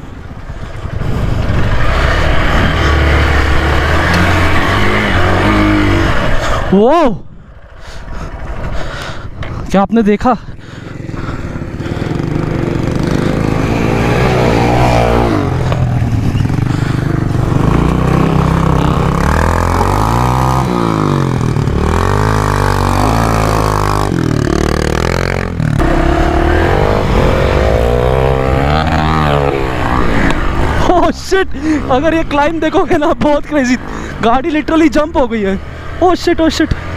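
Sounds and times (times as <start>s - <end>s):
motorcycle engine revving: 0.0s - 6.9s, 10.6s - 36.9s.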